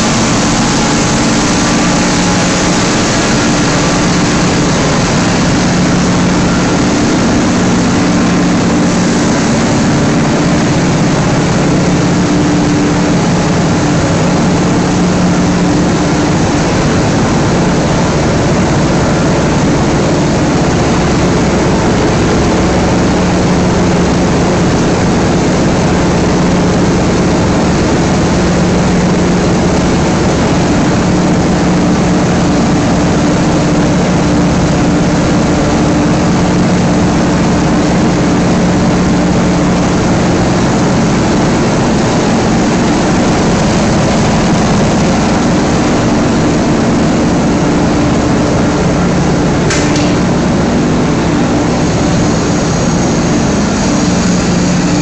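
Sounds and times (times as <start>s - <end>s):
low hum: 0.0s - 55.0s
machine drone: 0.0s - 55.0s.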